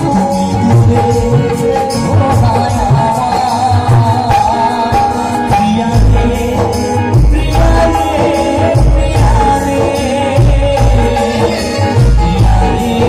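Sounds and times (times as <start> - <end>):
folk drums: 0.0 - 13.0
keyboard: 0.0 - 13.0
man singing: 0.0 - 13.0.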